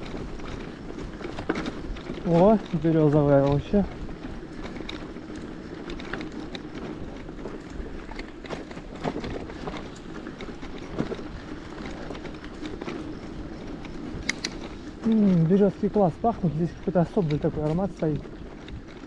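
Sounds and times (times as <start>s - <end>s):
bicycle clicks and rattles: 0.0s - 19.0s
bicycle tyre rumble: 0.0s - 19.0s.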